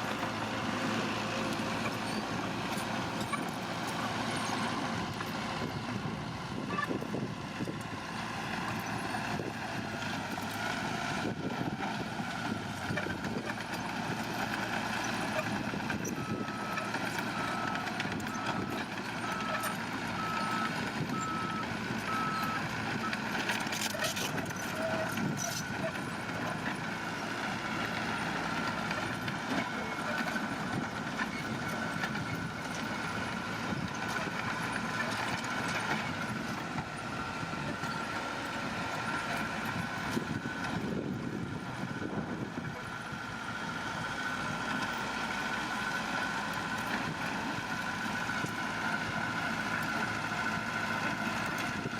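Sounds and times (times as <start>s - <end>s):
heavy construction machinery running: 0.0s - 51.9s.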